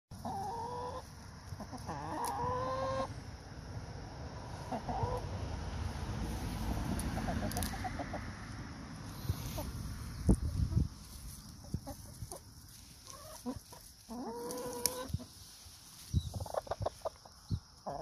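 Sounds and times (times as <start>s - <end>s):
hens clucking: 0.2s - 3.4s, 4.4s - 5.4s, 6.8s - 18.0s.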